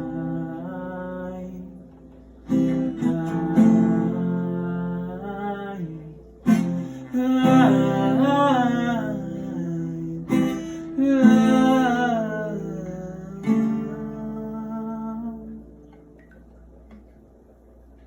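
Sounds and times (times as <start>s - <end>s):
wordless sung vocal: 0.0s - 16.1s
acoustic guitar strummed chords: 0.0s - 17.1s.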